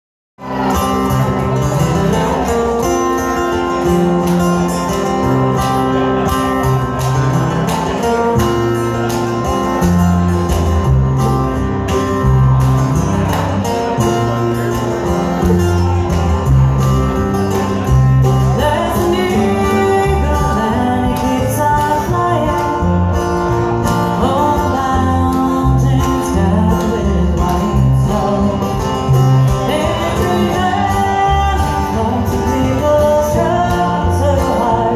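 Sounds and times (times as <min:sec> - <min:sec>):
acoustic guitar: 0:00.4 - 0:34.9
banjo: 0:00.4 - 0:34.9
upright bass: 0:00.4 - 0:34.9.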